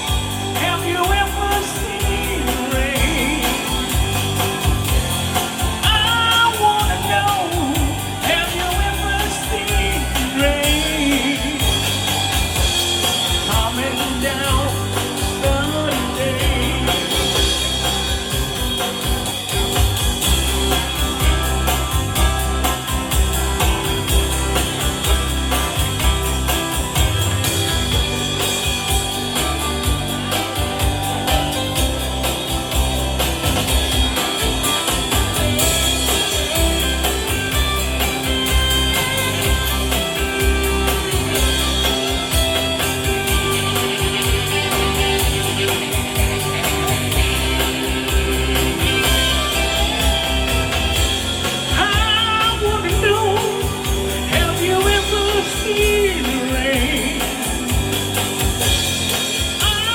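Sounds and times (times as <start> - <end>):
rock band music with singing: 0.0 - 59.9
wavering melodic lead line: 0.0 - 59.9.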